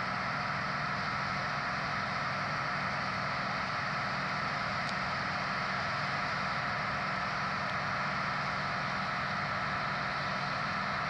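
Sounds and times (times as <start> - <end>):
combine harvester engine drone: 0.0 - 11.0.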